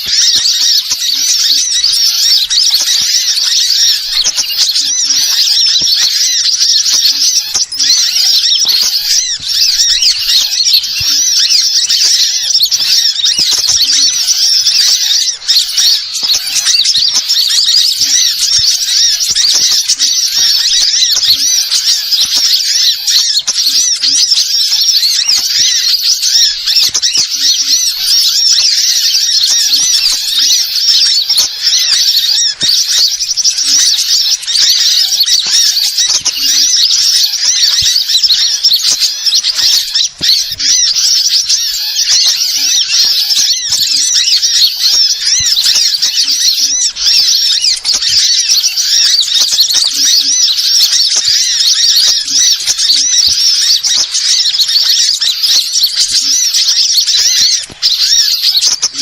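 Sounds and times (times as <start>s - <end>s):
small birds twittering and chirping: 0.0s - 59.0s.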